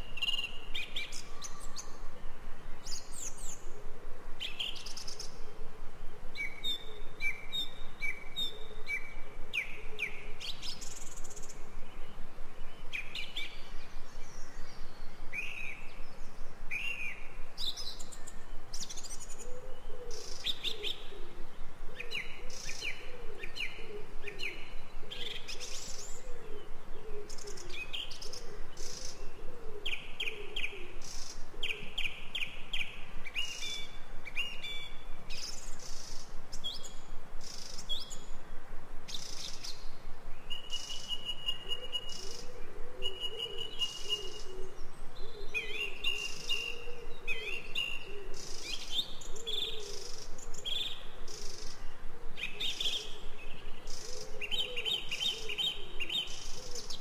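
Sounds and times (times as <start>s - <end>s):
birds chirping and trilling: 6.2s - 38.5s, 39.1s - 57.0s.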